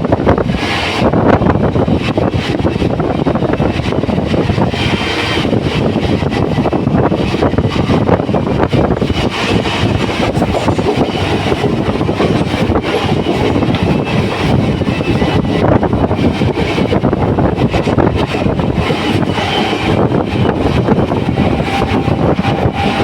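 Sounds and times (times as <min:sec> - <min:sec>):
train rumbling and rattling: 0:00.0 - 0:23.0.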